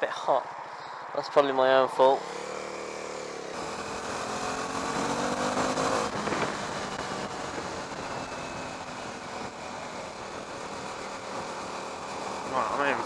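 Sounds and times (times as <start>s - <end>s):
motorcycle engine pulling away: 2.2s - 13.0s.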